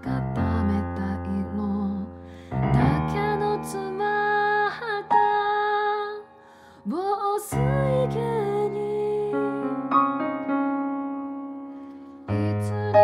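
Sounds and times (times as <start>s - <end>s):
woman singing: 0.0s - 9.9s, 12.2s - 13.0s
piano accompaniment: 0.0s - 13.0s.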